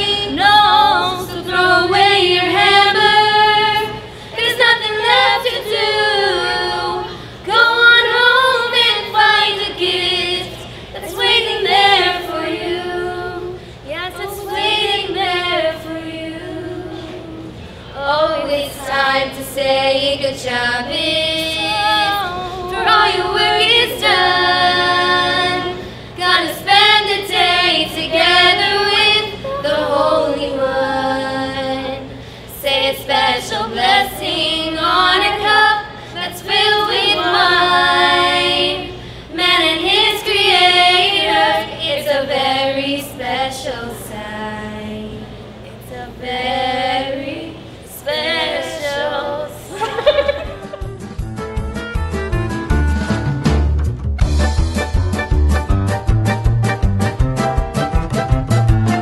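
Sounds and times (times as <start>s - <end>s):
girls and woman singing a cappella: 0.0s - 50.4s.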